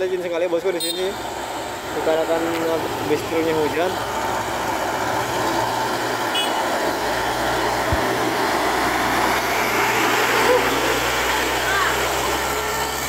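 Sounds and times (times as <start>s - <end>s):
diesel truck engine under load: 0.0s - 13.0s
road noise: 0.0s - 13.0s.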